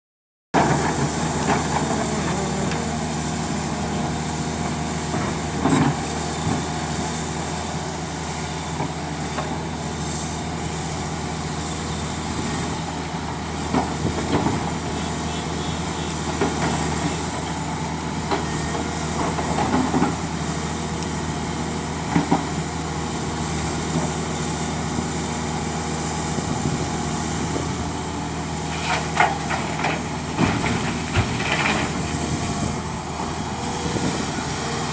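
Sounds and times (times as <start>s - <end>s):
heavy diesel engines under load: 0.6s - 34.9s.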